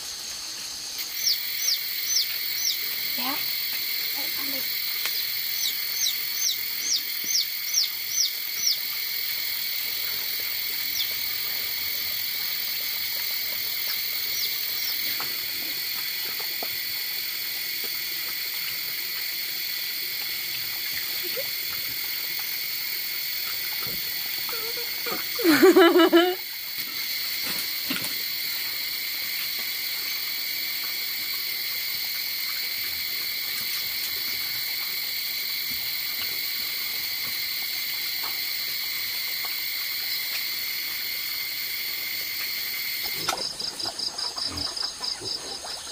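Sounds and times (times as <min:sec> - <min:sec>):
night insects chorus: 0:00.0 - 0:45.9.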